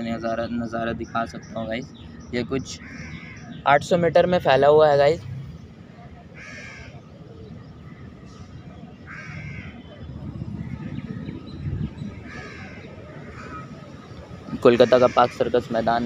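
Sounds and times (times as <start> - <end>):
bird calling: 0.0 - 4.1, 6.0 - 16.0.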